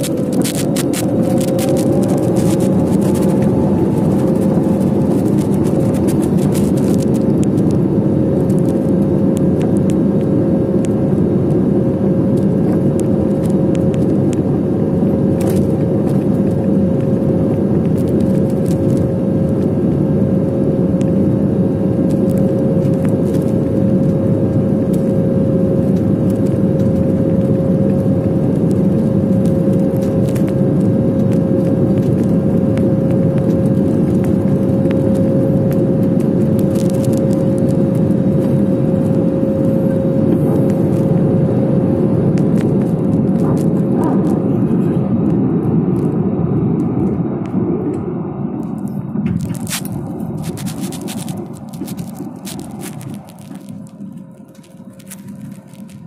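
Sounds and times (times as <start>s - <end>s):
jet engines rumbling: 0.0s - 56.0s
rising engine whine: 0.0s - 56.0s.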